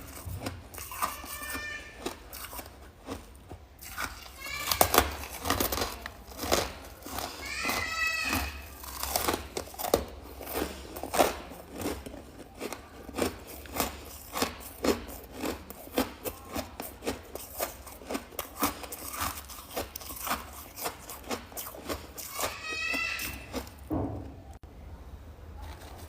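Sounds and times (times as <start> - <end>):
frost crunching as chewed: 0.0 - 23.9.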